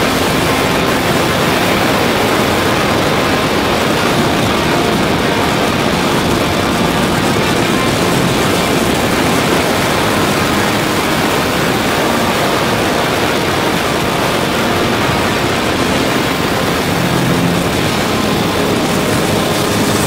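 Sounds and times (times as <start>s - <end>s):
go-kart engine running: 0.0s - 20.0s
wind noise on microphone: 0.0s - 20.0s.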